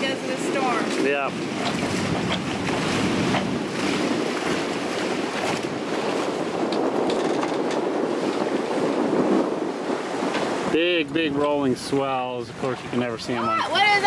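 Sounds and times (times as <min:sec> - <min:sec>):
wind and water rushing: 0:00.0 - 0:14.0.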